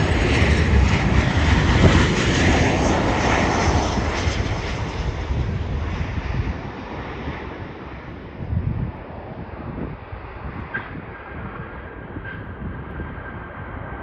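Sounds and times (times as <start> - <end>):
airliner jet engines: 0.0 - 14.0.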